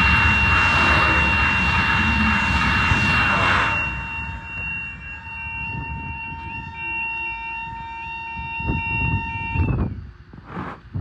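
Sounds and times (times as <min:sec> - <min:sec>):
fainter stepping alarm tone: 0:00.0 - 0:10.0
steady warning alarm tone: 0:00.0 - 0:10.1.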